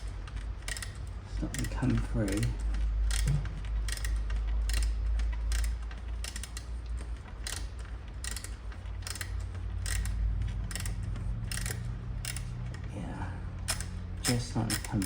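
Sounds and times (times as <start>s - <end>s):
ratchet wrench clicking: 0.0s - 12.9s, 13.6s - 15.0s.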